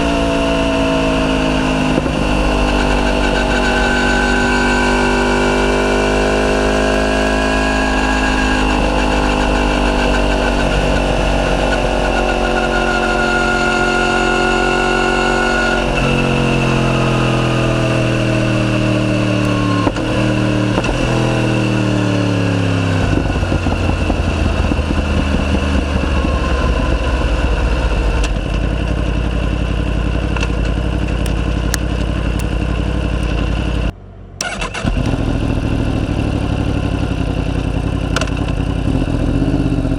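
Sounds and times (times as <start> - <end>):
loud motorcycle engine: 0.0 - 39.9.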